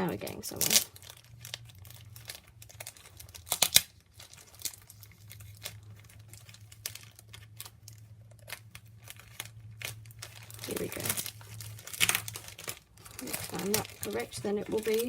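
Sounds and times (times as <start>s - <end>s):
paper packaging crinkling: 0.0s - 15.0s.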